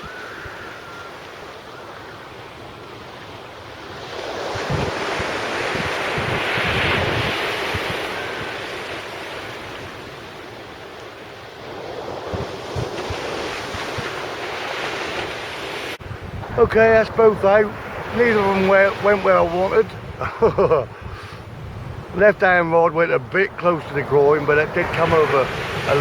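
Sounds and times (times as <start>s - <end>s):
sea surf breaking on beach: 0.0s - 26.0s
wind buffeting microphone: 2.6s - 10.9s, 11.6s - 26.0s.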